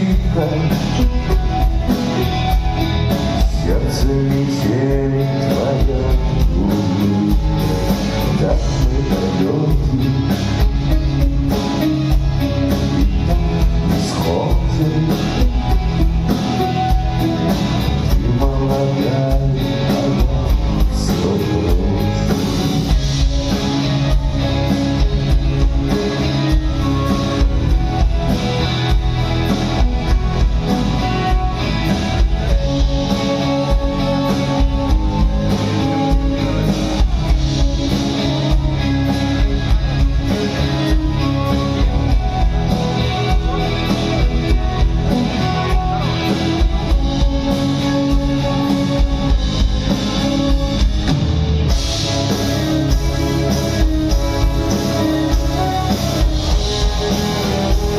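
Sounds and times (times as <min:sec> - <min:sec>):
drum kit: 0:00.0 - 0:57.9
guitars: 0:00.0 - 0:57.9.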